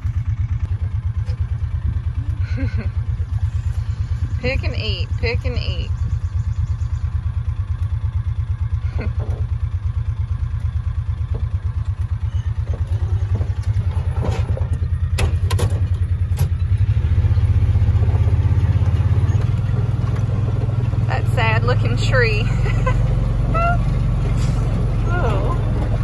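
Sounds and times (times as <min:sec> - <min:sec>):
farm vehicle engine: 0:00.0 - 0:26.0.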